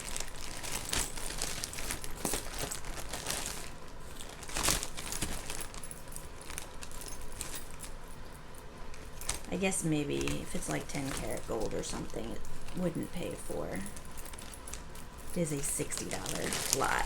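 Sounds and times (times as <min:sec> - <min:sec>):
jewelry clattering: 0:00.0 - 0:09.5, 0:10.2 - 0:17.0
jewelry clicking and rustling: 0:00.0 - 0:17.0.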